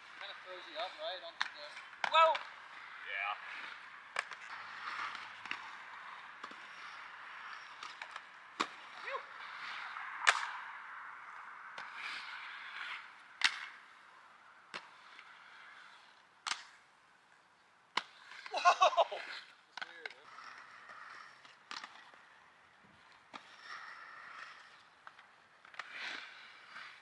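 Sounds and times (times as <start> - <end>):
skates clacking on coping: 0.0 - 17.0, 17.9 - 27.0
skate wheels rolling on concrete: 0.0 - 27.0.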